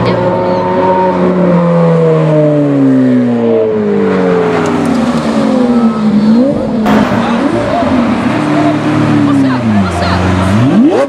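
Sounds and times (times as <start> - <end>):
loud car engine passing: 0.0 - 11.0.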